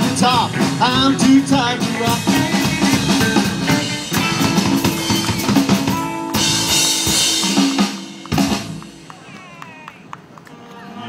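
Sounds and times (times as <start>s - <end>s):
rockabilly band playing: 0.0s - 9.5s.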